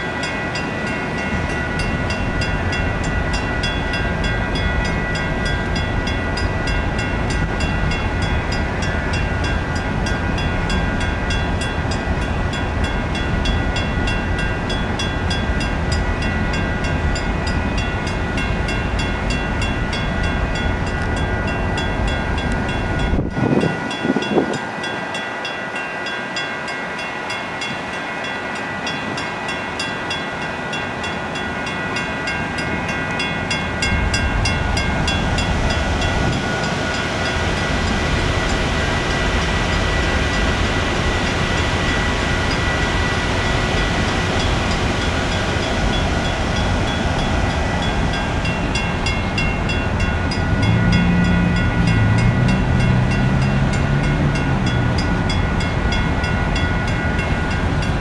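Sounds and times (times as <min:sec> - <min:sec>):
crossing warning bell ringing: 0:00.0 - 0:58.0
train wheels rumbling on rails: 0:00.0 - 0:58.0.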